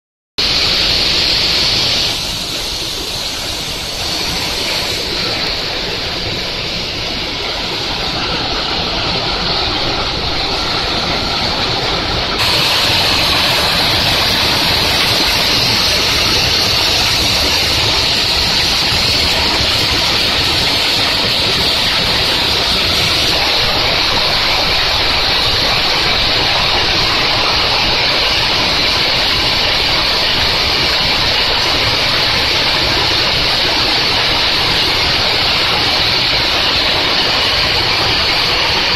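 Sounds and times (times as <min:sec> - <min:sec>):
conveyor belt rattling with rock: 0:00.5 - 0:38.9.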